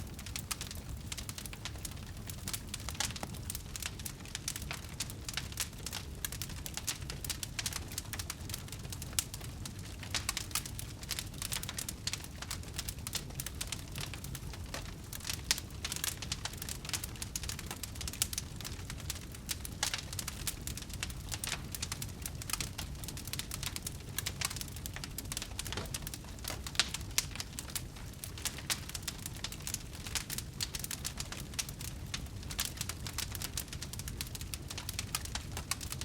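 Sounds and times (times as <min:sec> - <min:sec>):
fire crackling and popping: 0:00.0 - 0:36.0
fire rumbling: 0:00.0 - 0:36.0
wood fire snaps: 0:00.0 - 0:36.0.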